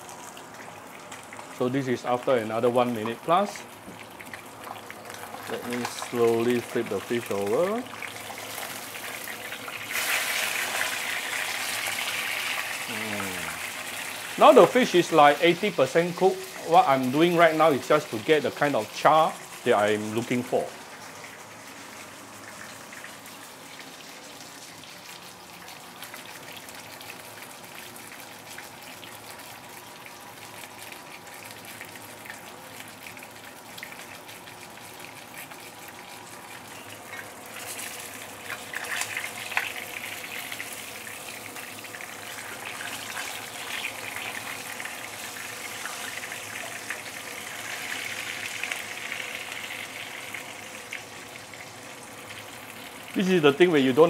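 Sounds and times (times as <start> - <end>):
fish sizzling in frying pan: 0.0 - 54.0.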